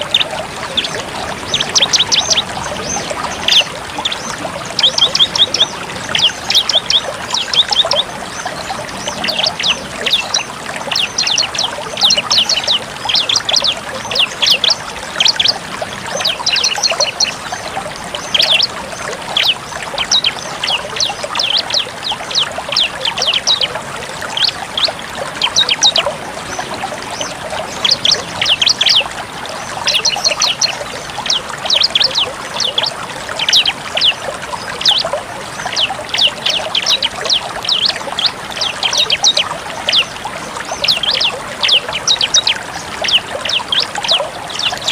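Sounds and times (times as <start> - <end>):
running water trickling: 0.0 - 44.9.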